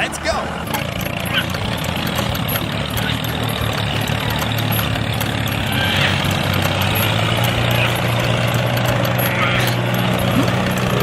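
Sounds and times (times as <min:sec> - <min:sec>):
construction vehicle engine hum: 0:00.0 - 0:11.0.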